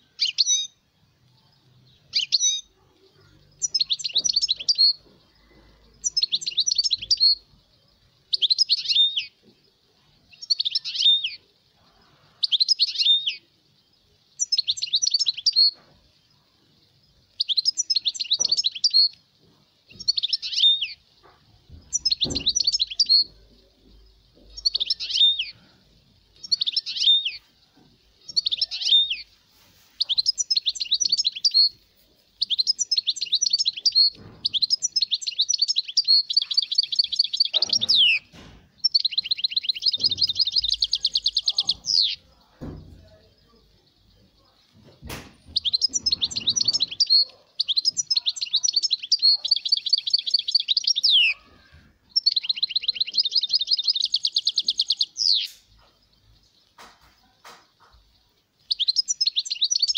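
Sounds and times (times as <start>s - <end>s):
goldfinch twittering song: 0.0s - 0.8s, 1.5s - 2.8s, 3.4s - 9.6s, 10.3s - 11.4s, 12.4s - 16.0s, 16.8s - 59.9s.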